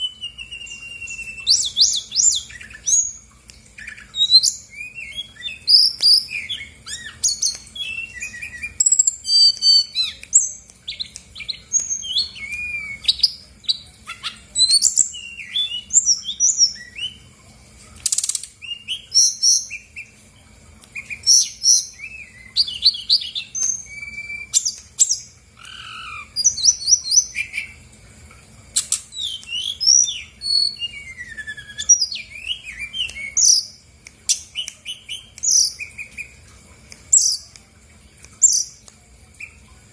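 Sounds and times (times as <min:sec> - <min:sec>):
bird singing varied song: 0:00.0 - 0:17.3, 0:18.0 - 0:20.2, 0:20.9 - 0:27.8, 0:28.8 - 0:36.4, 0:38.4 - 0:39.7.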